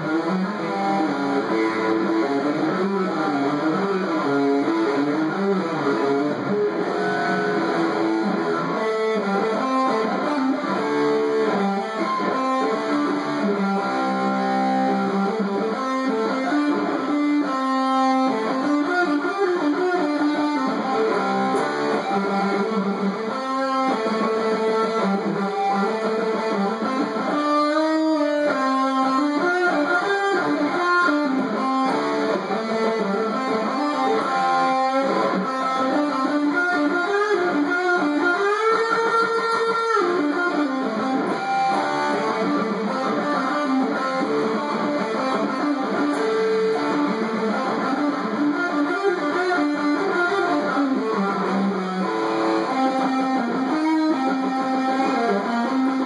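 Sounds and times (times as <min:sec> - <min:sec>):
electric guitar solo: 0:00.0 - 0:56.0.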